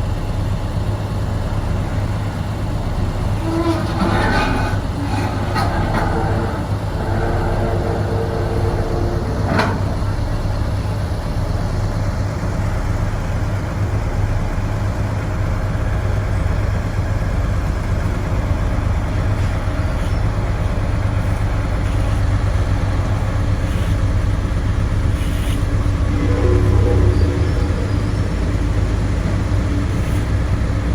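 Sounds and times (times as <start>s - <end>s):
diesel machinery rumbling: 0.0s - 30.9s.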